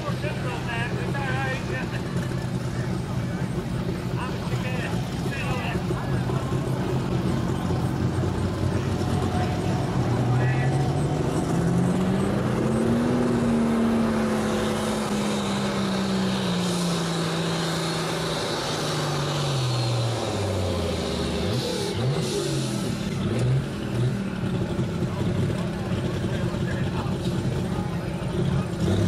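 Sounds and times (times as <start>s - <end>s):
tractor engine under load: 0.0s - 29.0s.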